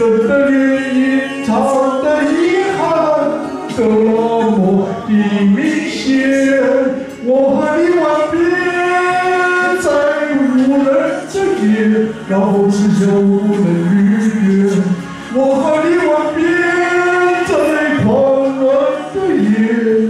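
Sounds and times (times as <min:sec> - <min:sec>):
harmonica melody: 0:00.0 - 0:20.0.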